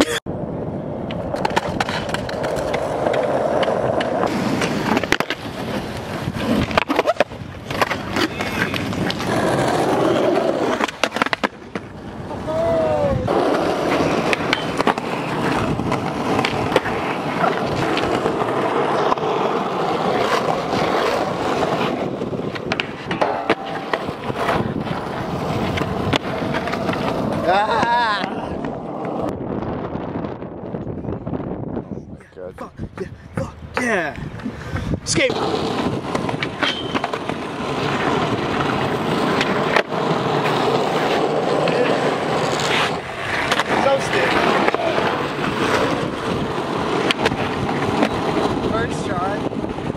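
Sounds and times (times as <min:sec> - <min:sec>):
skateboard wheels rolling on concrete: 0:00.0 - 0:49.9
skateboard clacks: 0:01.0 - 0:29.4, 0:33.7 - 0:49.9.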